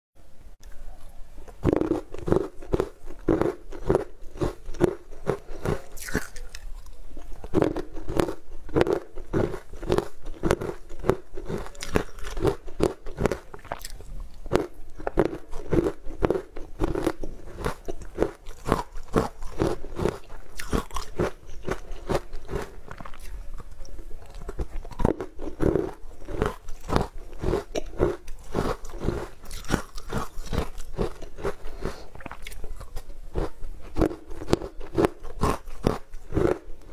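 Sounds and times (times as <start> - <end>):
person chewing: 1.5 - 36.9.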